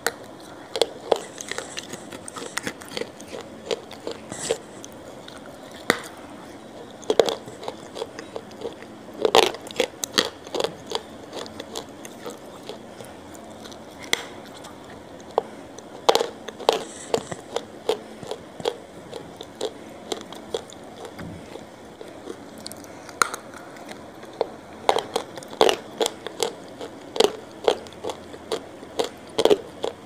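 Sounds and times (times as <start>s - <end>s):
person chewing with mouth clicks: 0.0s - 30.0s.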